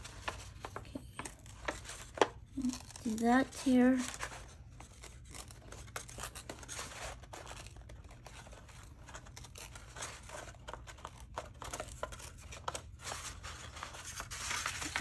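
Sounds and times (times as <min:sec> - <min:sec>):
paper tearing: 0:00.0 - 0:15.0.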